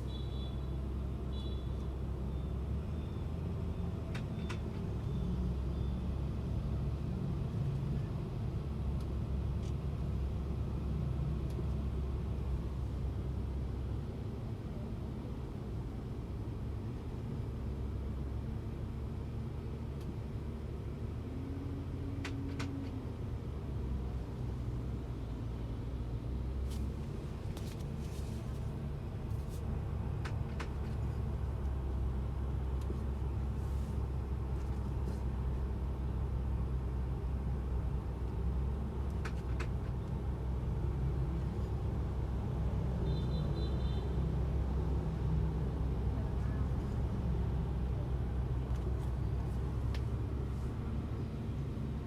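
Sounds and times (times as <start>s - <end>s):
car rolling low rumble: 1.8s - 42.9s, 44.3s - 52.0s.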